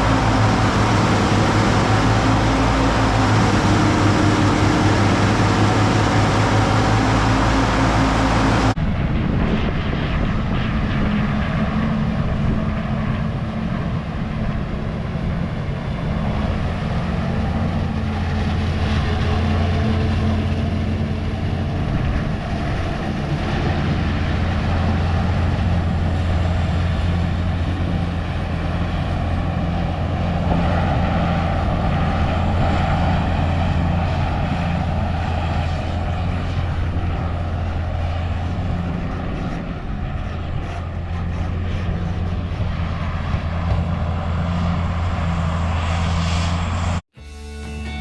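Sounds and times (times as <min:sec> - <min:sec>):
diesel farm machinery engine drone: 0:00.0 - 0:48.0.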